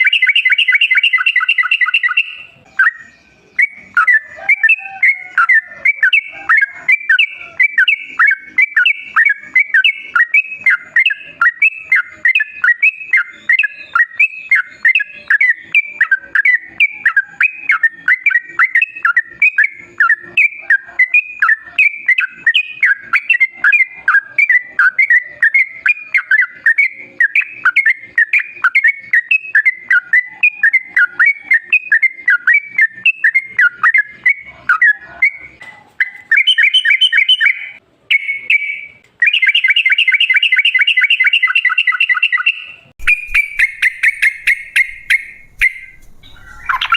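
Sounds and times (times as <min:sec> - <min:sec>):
bird singing rapid chirps: 0:00.0 - 0:46.9.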